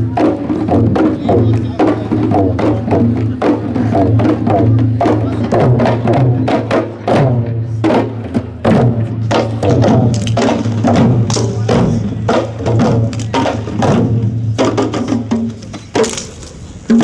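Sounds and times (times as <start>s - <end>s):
barrel drums beaten rhythmically: 0.0s - 17.0s.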